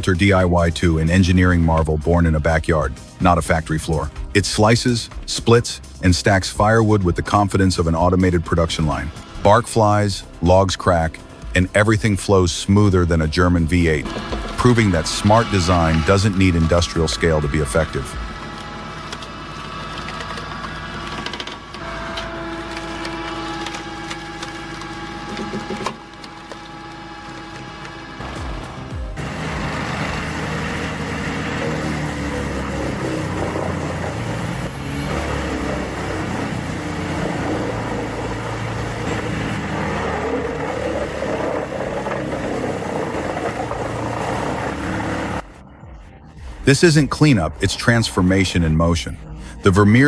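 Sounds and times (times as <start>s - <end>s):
machine humming: 6.6s - 47.7s.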